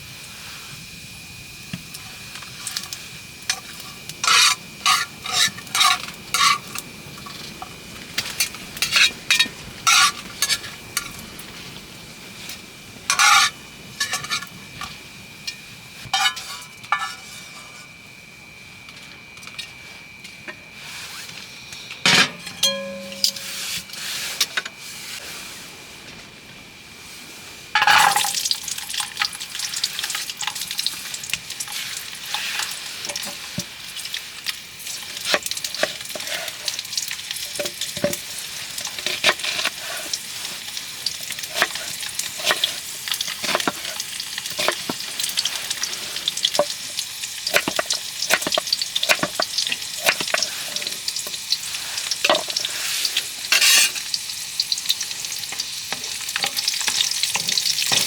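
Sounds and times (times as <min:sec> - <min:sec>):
food sizzling in a pan: 0:00.0 - 0:17.9, 0:22.5 - 0:25.6, 0:27.7 - 0:58.0.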